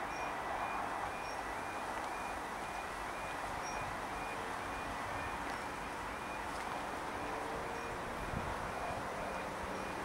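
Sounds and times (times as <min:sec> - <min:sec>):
background rush of noise: 0:00.0 - 0:10.0
level crossing alarm warble: 0:00.0 - 0:10.0.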